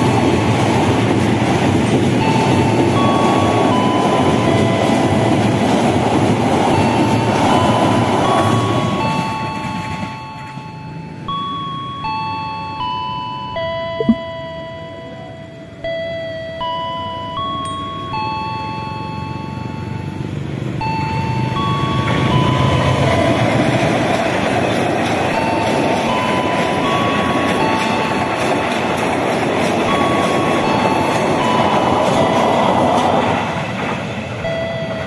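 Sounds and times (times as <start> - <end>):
passenger train passing: 0.0 - 35.0.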